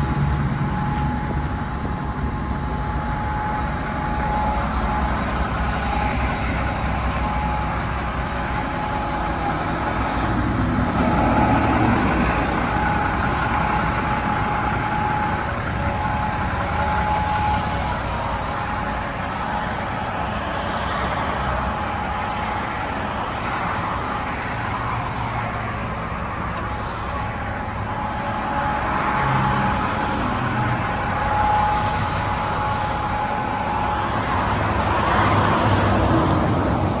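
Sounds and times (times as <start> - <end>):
steady whine: 0.0 - 37.0
wheel loader diesel engine rumble: 0.0 - 37.0.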